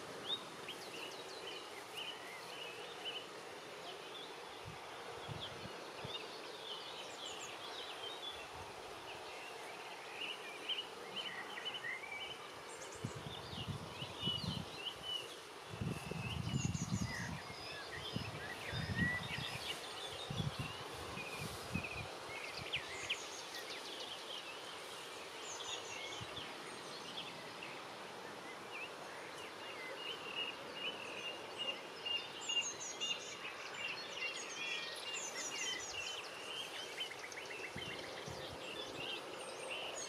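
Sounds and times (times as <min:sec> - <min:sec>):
small birds singing: 0:00.0 - 0:40.0
steady outdoor hiss: 0:00.0 - 0:40.0.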